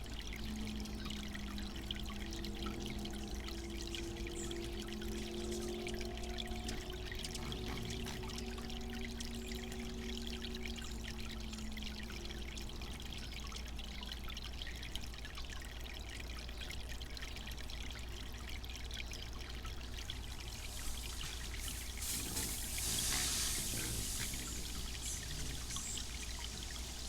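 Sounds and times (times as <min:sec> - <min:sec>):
low hum: 0:00.0 - 0:15.3, 0:17.3 - 0:27.0
fountain water trickling: 0:00.0 - 0:27.0.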